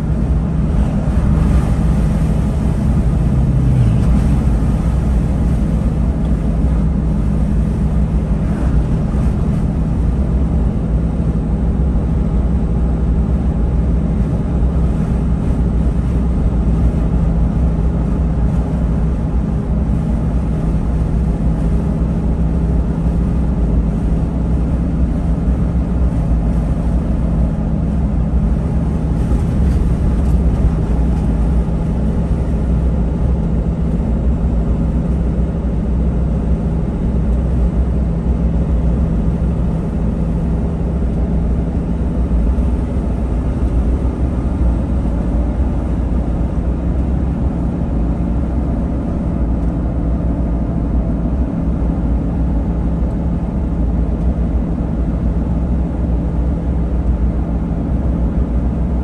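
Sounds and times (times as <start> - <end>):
truck engine and tyre rumble: 0.0 - 59.0.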